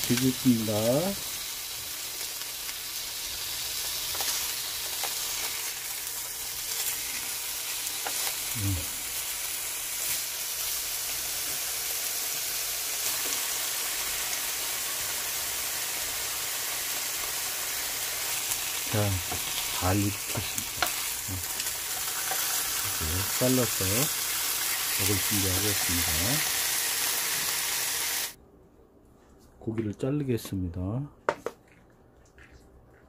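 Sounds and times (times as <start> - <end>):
steaks sizzling in a frying pan: 0.0 - 28.4.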